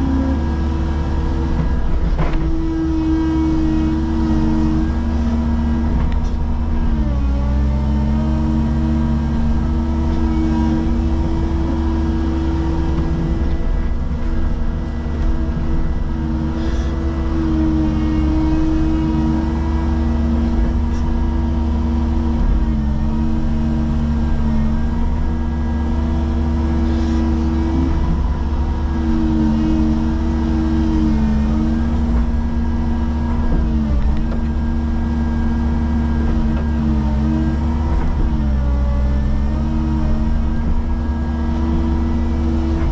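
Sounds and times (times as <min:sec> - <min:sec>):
excavator diesel engine: 0:00.0 - 0:42.9
hydraulic whine: 0:00.0 - 0:42.9.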